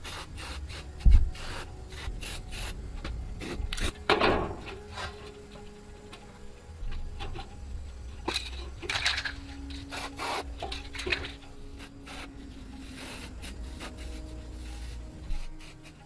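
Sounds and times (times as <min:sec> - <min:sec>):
scraping and rubbing strokes: 0:00.0 - 0:06.5, 0:07.2 - 0:16.0.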